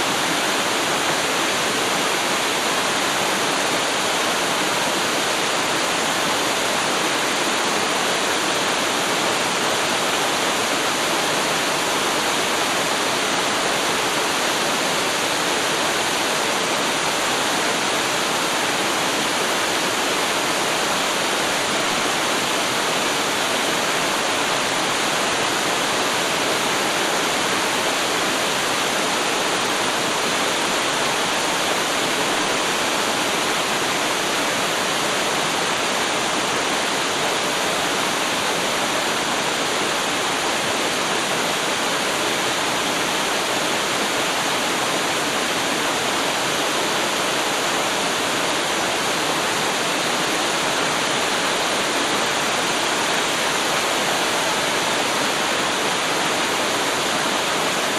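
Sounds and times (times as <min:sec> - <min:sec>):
waterfall pouring and splashing: 0:00.0 - 0:57.9.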